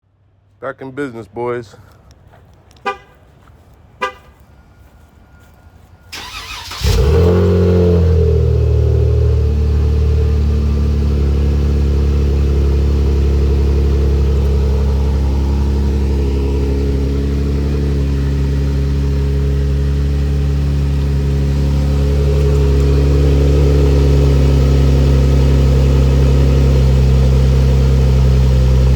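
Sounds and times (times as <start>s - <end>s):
pickup engine idling: 5.4s - 28.9s.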